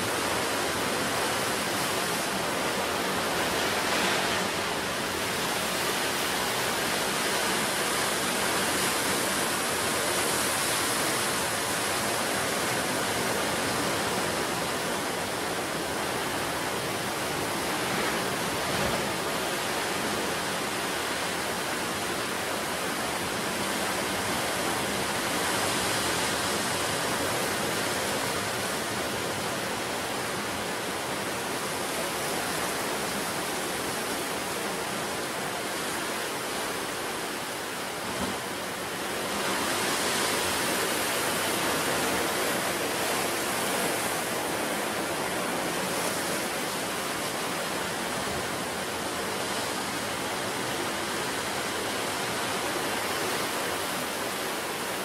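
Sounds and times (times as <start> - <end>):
ocean surf washing ashore: 0.0 - 55.0.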